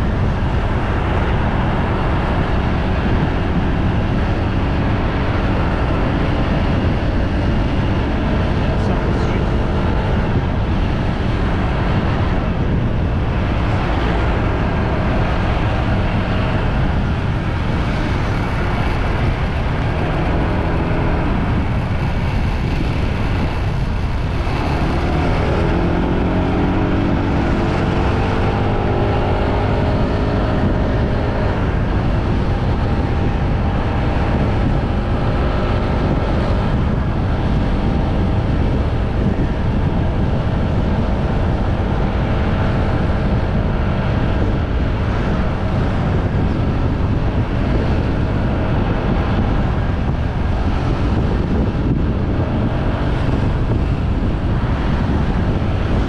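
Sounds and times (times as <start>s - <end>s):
heavy wind rush: 0.0s - 56.0s.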